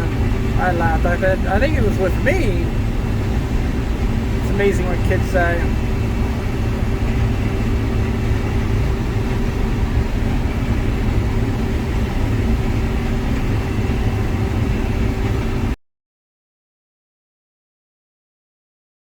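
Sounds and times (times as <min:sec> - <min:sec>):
combine harvester engine drone: 0:00.0 - 0:15.8
steady humming tones: 0:00.0 - 0:15.8.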